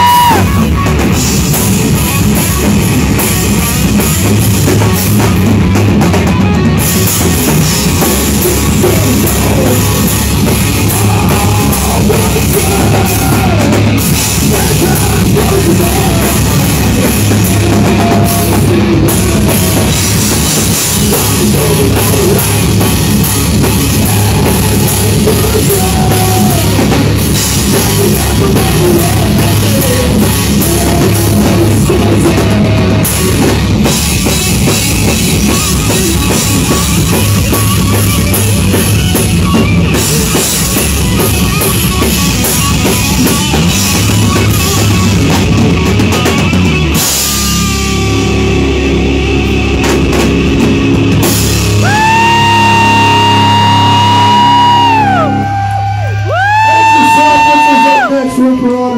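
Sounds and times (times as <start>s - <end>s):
drum kit beat: 0.0s - 58.1s
rock band playing live: 0.0s - 58.9s.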